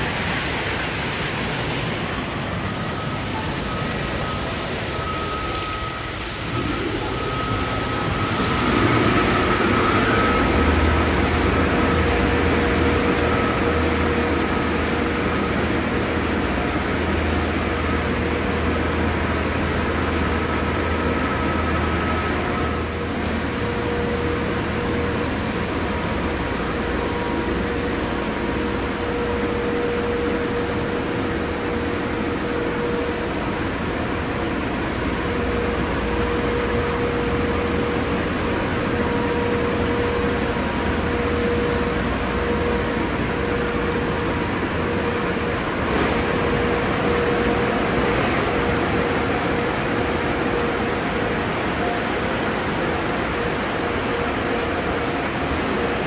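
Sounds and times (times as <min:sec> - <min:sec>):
car wash rushing noise: 0:00.0 - 0:56.0.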